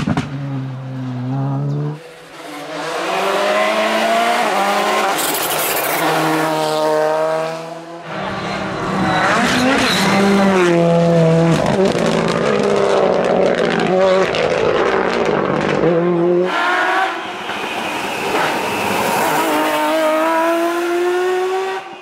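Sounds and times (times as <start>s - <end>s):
rally car engines at full throttle: 0.0s - 22.0s.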